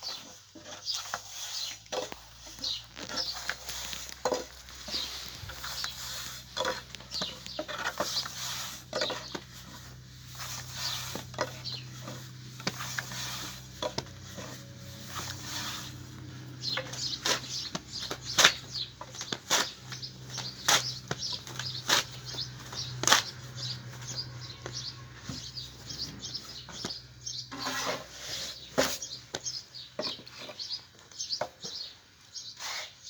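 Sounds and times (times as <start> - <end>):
birds chirping: 0.0 - 32.6.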